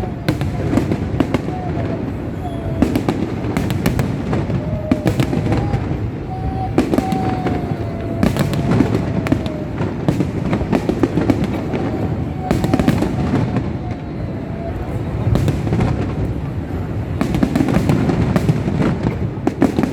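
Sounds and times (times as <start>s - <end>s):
fireworks bangs and crackles: 0.0s - 19.9s.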